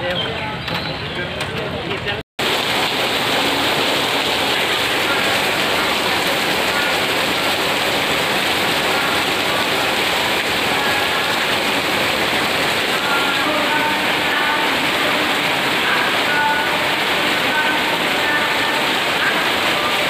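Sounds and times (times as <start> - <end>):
heavy rain pouring: 2.4 - 20.0.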